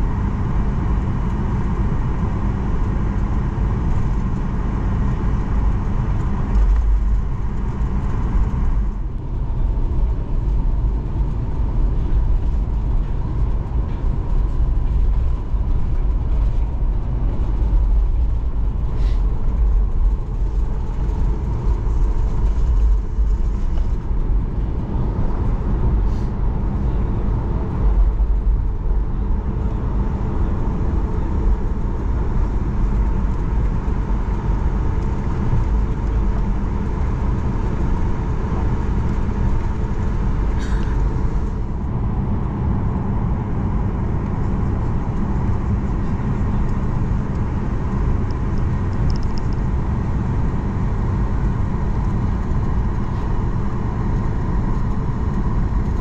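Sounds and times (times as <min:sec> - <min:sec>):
faint engine whine: 0:00.0 - 0:56.0
jet engines idling rumble: 0:00.0 - 0:56.0.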